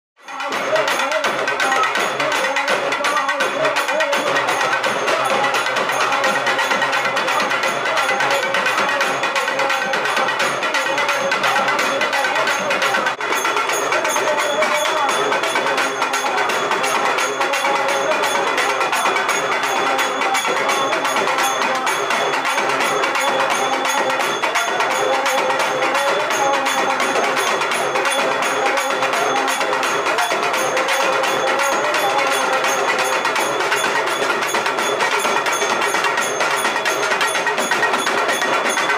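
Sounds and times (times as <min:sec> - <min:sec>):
fast steady percussion: 0:00.2 - 0:38.9.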